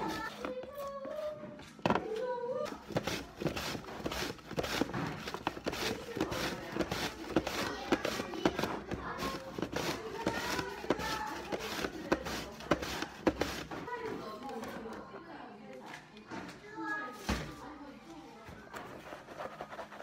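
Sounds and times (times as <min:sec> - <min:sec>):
background voices chattering: 0:00.0 - 0:20.0.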